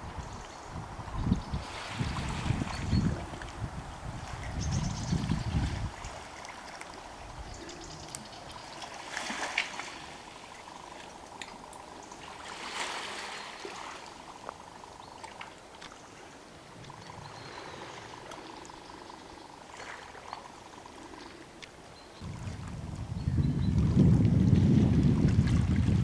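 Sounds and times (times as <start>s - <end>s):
waves lapping against rocks: 1.6s - 22.8s, 23.8s - 26.0s.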